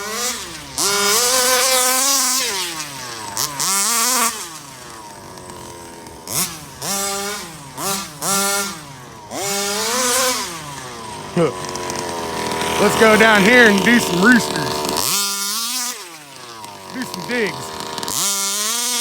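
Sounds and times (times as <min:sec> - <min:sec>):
rc car engine revving: 0:00.0 - 0:19.0.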